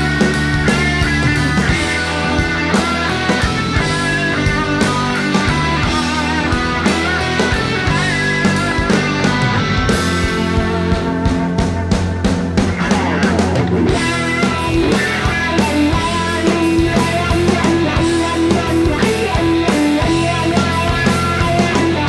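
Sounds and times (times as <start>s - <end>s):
bass line: 0.0s - 22.0s
drum hits: 0.0s - 22.0s
guitars: 0.0s - 22.0s.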